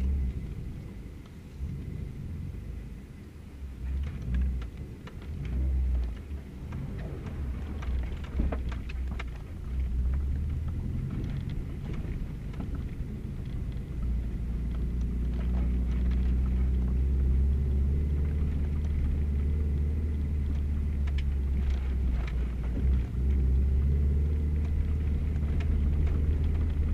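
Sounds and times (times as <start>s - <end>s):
engine and drivetrain rumble: 0.0s - 26.9s
rattles and knocks over bumps: 3.8s - 26.9s.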